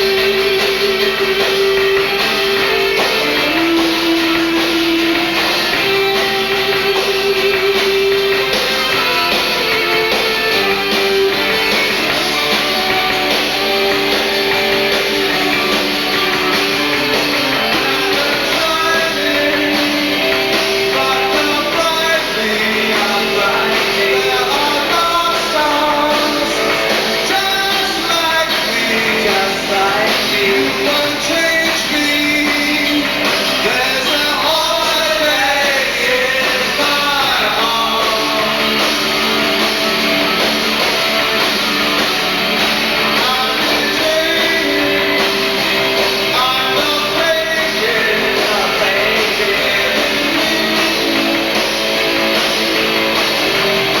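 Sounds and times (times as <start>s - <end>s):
rock and roll band playing: 0.0s - 54.0s.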